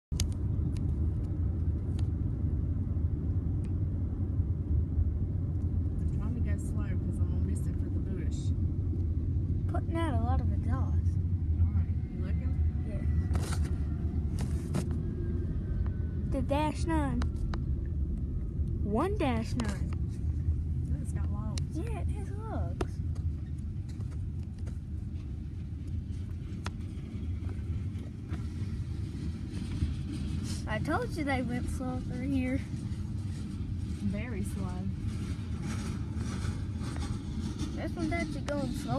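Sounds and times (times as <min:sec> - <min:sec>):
car interior road and engine noise: 0:00.1 - 0:38.9
freight train rumbling: 0:00.3 - 0:38.9.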